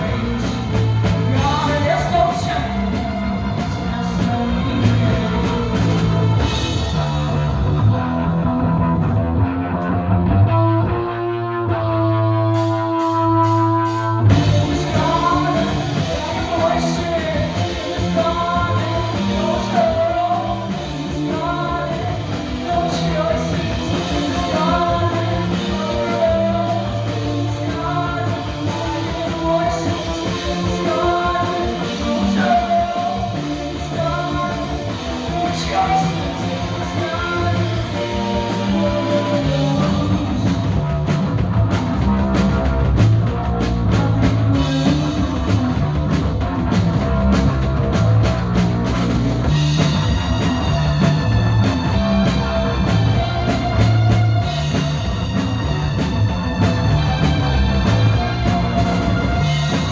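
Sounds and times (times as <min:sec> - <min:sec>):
person singing: 0:00.0 - 0:09.0, 0:09.7 - 0:46.4, 0:49.4 - 0:59.9
bass guitar: 0:00.0 - 0:59.9
distorted electric guitars: 0:00.0 - 0:59.9
drums: 0:00.0 - 0:59.9.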